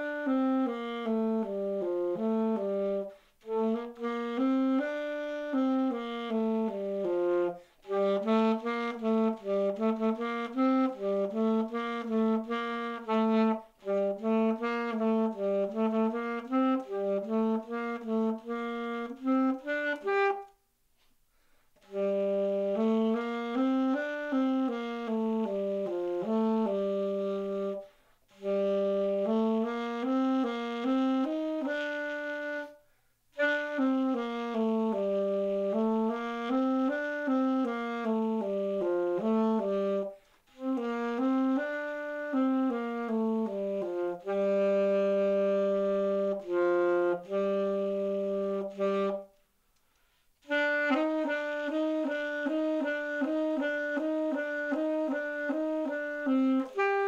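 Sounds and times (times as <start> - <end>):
alto saxophone melody: 0.0 - 57.0.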